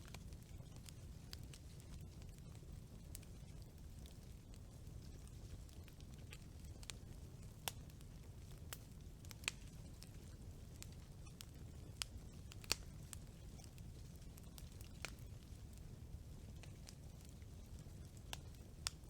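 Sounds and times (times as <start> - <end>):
burning wood crackling: 0.0 - 19.0
campfire flame rumble: 0.0 - 19.0.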